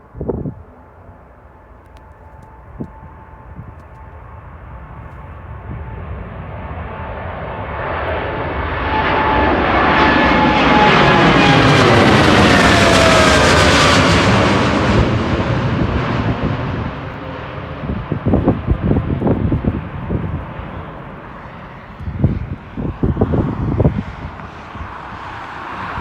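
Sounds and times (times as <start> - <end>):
jet engines passing by: 0.0 - 26.0.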